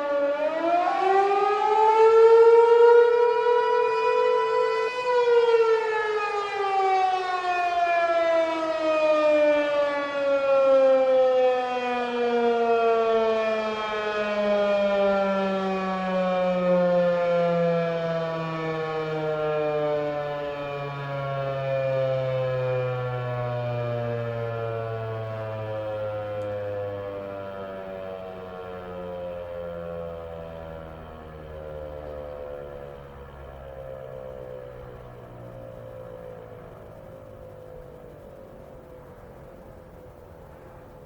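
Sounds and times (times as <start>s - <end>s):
siren winding down: 0.0s - 41.0s.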